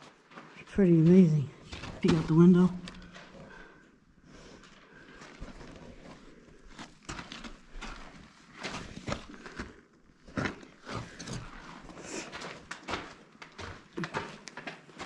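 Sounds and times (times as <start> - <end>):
slow irregular footsteps: 0.0 - 15.0.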